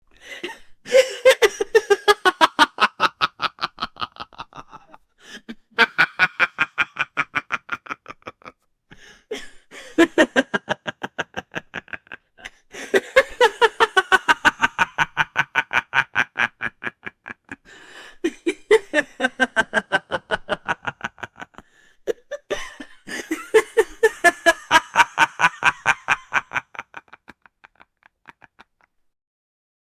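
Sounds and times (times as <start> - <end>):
man's deep evil laugh: 0.3 - 28.9.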